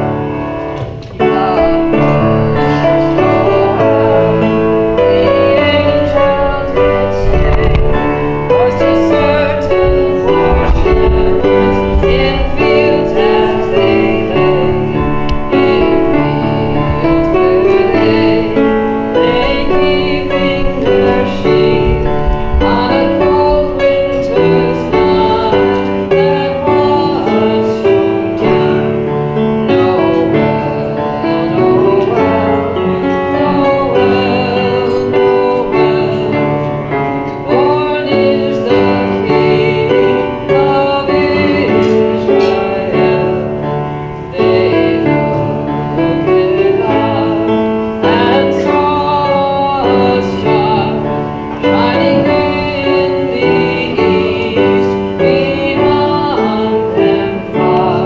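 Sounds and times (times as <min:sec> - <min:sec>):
group singing a carol: 0:00.0 - 0:58.0
piano accompaniment: 0:00.0 - 0:58.0.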